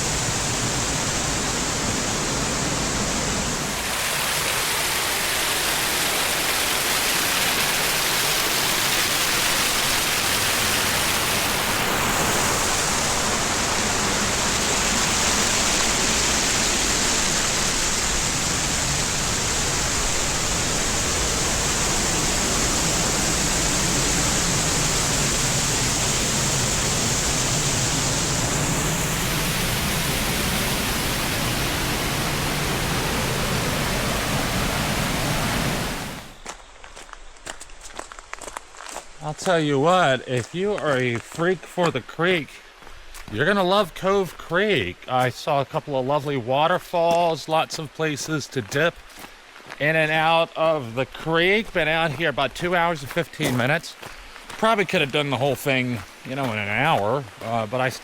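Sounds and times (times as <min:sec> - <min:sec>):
mountain creek water rushing: 0:00.0 - 0:36.5, 0:39.2 - 0:58.0
small waterfalls: 0:00.0 - 0:58.0.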